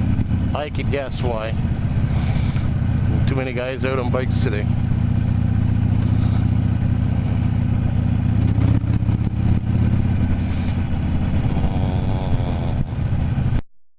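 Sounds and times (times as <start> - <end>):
engine knocks: 0.0 - 13.6
motorcycle engine running: 0.0 - 13.6.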